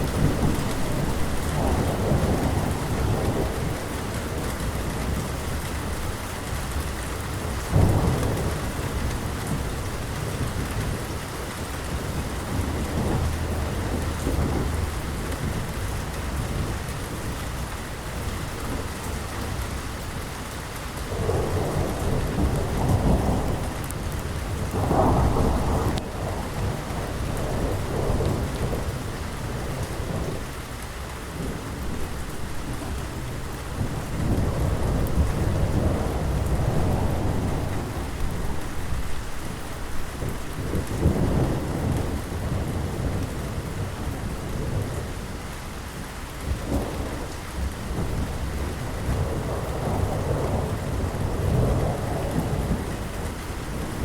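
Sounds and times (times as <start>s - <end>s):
rolling thunder: 0.0s - 6.2s, 7.2s - 17.6s, 21.0s - 30.6s, 31.3s - 45.2s, 46.0s - 54.0s
steady rain falling: 0.0s - 54.0s.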